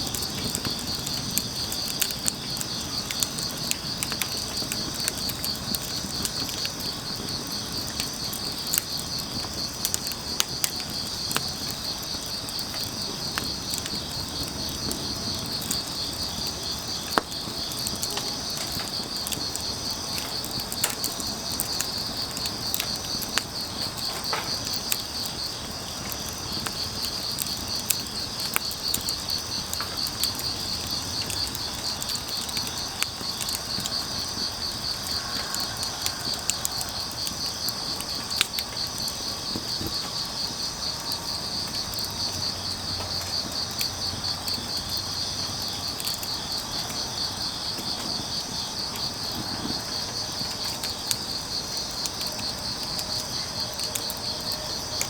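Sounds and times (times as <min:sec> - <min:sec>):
crickets chirring: 0:00.0 - 0:55.0
wood fire crackling: 0:00.0 - 0:55.0.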